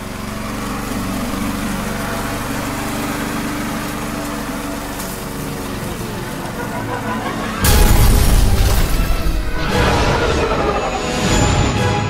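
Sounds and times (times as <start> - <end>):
lawn mower running: 0.0 - 10.2.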